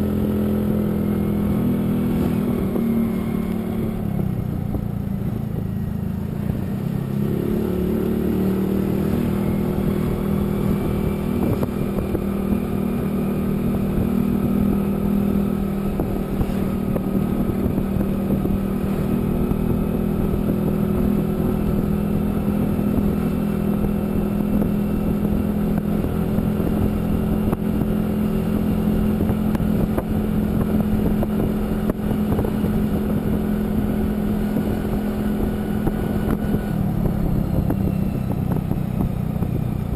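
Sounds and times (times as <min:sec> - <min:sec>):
road and wind rush: 0:00.0 - 0:39.9
vehicle engine running: 0:00.0 - 0:39.9.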